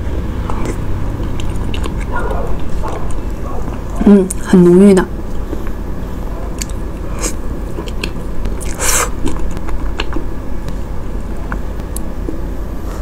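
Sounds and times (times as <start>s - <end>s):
close chewing with mouth clicks: 0.4s - 4.4s, 5.2s - 5.8s, 6.4s - 12.5s.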